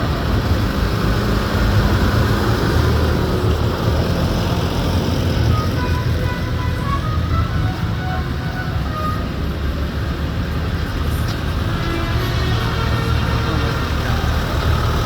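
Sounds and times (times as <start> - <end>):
tractor engines rumbling: 0.0 - 15.0.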